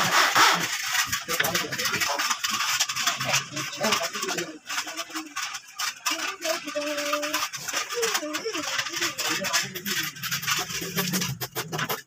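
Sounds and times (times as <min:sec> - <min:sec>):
plastic strips clicking and rattling: 0:00.0 - 0:12.0
faint voices: 0:00.6 - 0:12.0.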